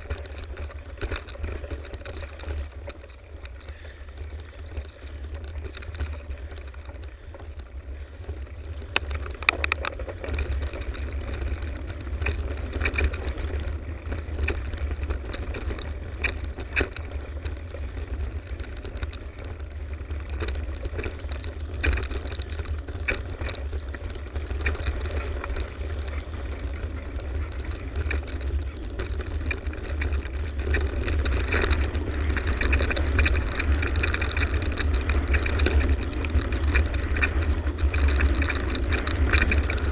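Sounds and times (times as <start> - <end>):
bike rattles and clicks: 0.0 - 39.9
bike tyres on dirt: 0.0 - 39.9
wind rumble on microphone: 0.0 - 39.9.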